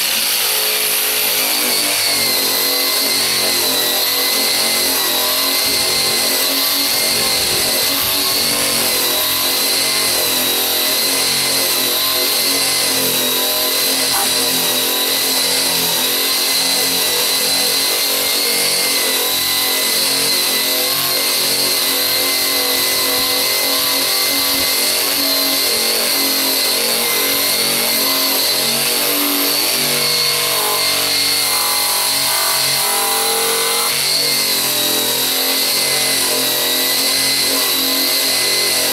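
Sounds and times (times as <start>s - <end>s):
sander whining: 0.0s - 38.9s.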